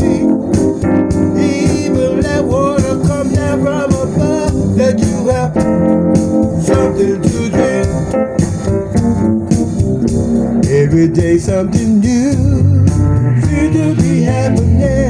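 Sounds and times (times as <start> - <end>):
instrumental keyboard and guitar music: 0.0 - 15.0.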